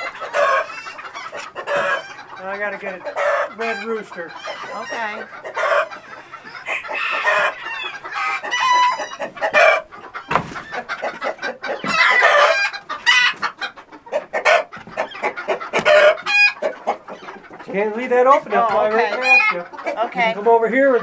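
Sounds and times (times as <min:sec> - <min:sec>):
chickens squawking and clucking: 0:00.0 - 0:21.0.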